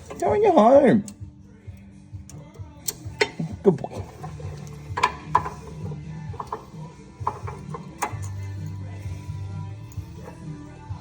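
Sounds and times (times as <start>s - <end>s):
country music: 0.0s - 11.0s.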